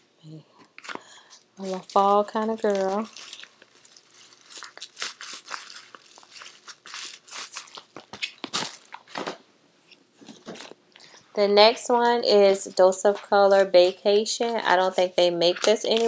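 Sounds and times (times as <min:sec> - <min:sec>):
bubble wrap crinkling: 0:00.7 - 0:16.0.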